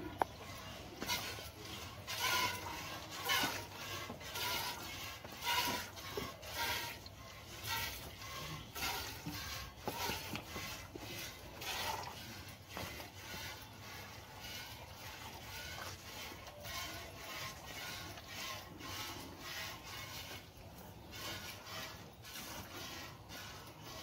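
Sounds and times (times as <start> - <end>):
milk squirting into a steel pail: 0.2 - 24.0.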